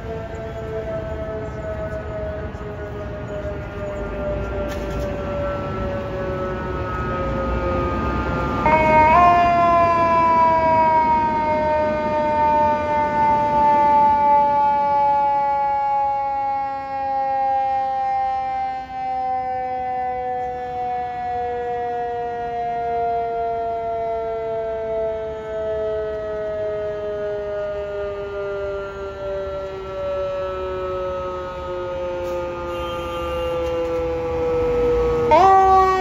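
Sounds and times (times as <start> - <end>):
city traffic noise: 0.0 - 36.0
mechanical siren falling wail: 0.0 - 36.0.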